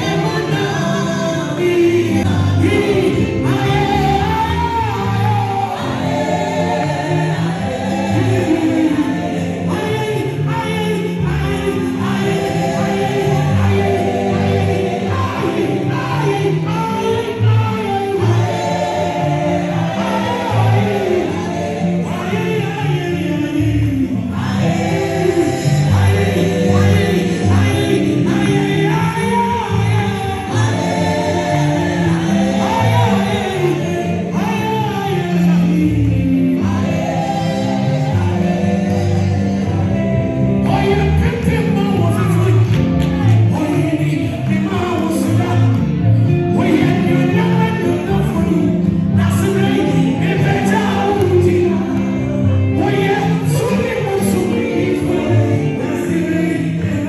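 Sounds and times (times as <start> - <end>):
keyboard and bass accompaniment: 0.0 - 57.0.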